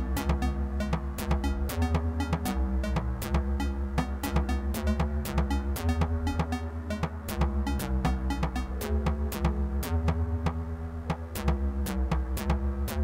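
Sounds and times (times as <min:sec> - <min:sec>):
deep pulsing bass: 0:00.0 - 0:13.0.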